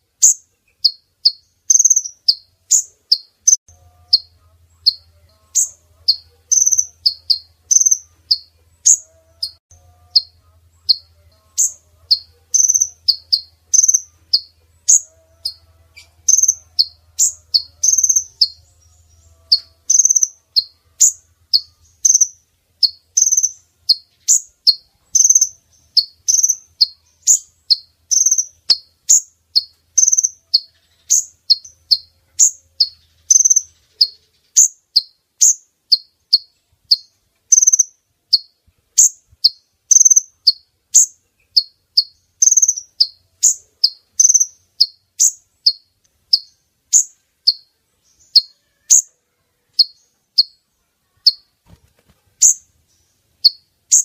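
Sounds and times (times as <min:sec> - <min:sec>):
bird chirping high and sharp: 0:00.2 - 0:49.1, 0:49.7 - 0:50.6, 0:51.2 - 0:51.5, 0:52.4 - 0:52.7, 0:53.4 - 0:54.0.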